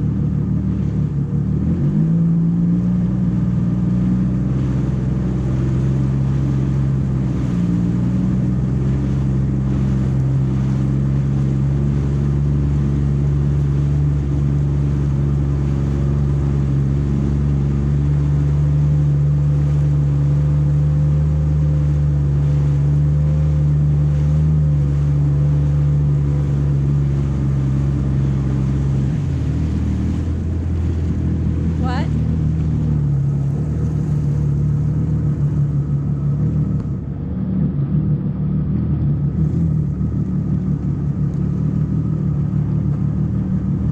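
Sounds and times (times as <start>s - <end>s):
jet ski engine running: 0.0s - 43.9s.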